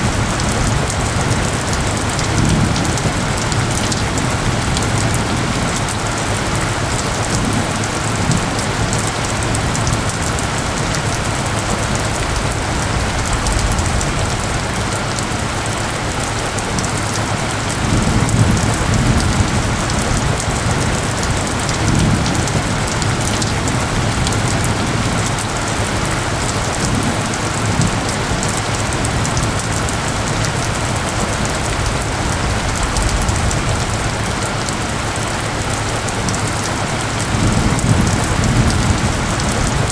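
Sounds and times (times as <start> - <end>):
heavy rain pattering: 0.0 - 39.9
thunder rumbling: 0.0 - 39.9.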